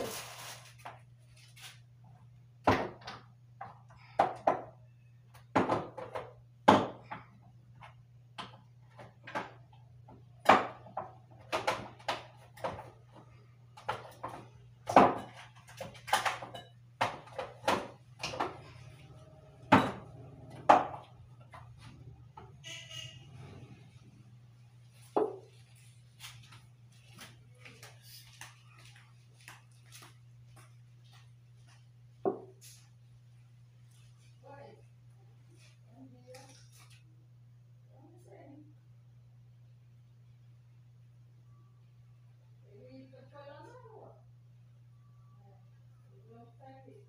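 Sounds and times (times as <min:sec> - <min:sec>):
steady low hum: 0:00.2 - 0:47.0.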